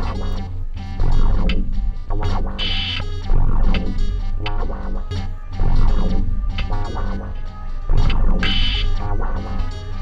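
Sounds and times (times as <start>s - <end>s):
guitar: 0.0s - 10.0s
heavy bass line: 0.0s - 10.0s.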